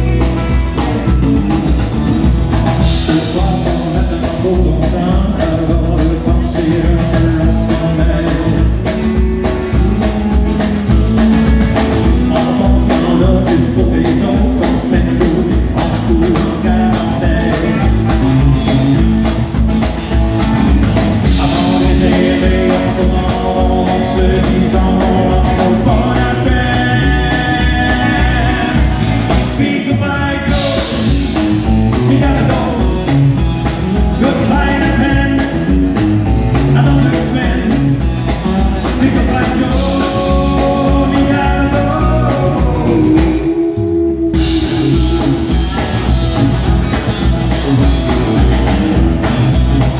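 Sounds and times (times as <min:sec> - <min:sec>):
strummed acoustic guitar: 0:00.0 - 0:43.6
steady drum beat: 0:00.0 - 0:49.9
man singing: 0:02.8 - 0:10.3, 0:11.8 - 0:19.4, 0:21.2 - 0:46.2.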